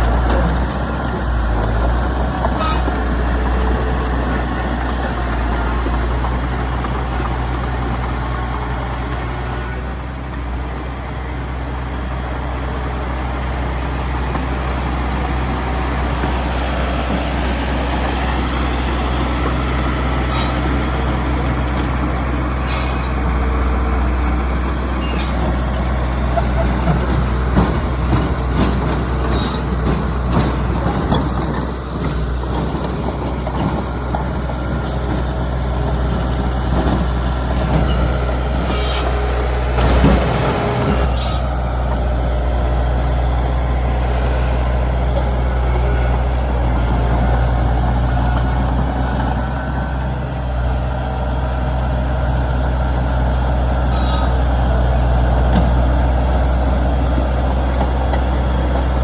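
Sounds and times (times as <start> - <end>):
heavy diesel machinery humming: 0.0 - 59.0.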